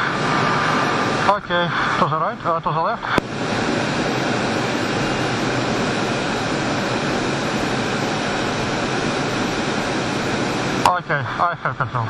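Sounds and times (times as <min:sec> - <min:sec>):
jet cockpit airflow and engine noise: 0:00.0 - 0:12.0.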